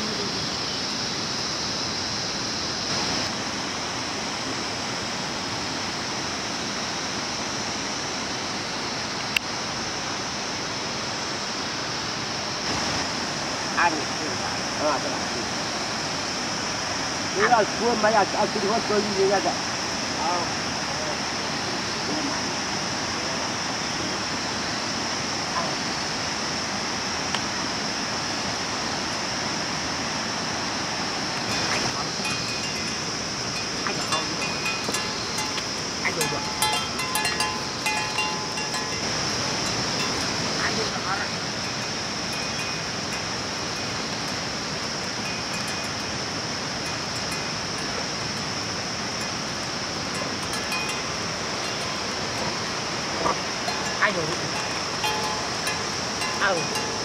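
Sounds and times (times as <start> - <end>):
high-pitched hiss: 0.0 - 57.0
rushing outdoor noise: 0.0 - 57.0.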